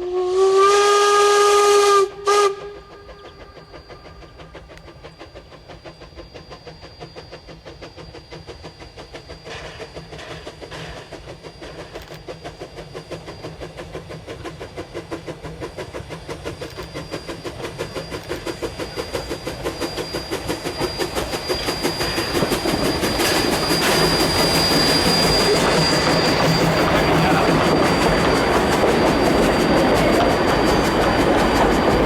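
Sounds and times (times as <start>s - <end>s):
steam locomotive chuffing: 0.0s - 32.0s.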